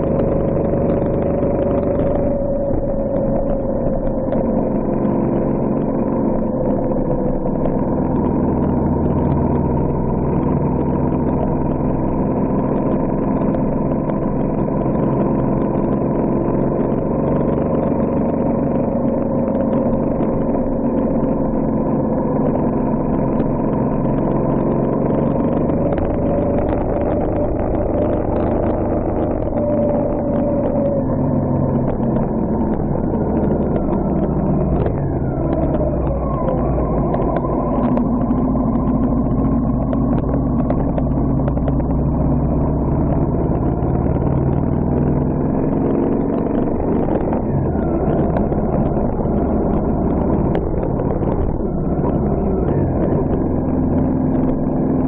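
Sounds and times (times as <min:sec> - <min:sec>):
vehicle engine driving: 0:00.0 - 0:55.0.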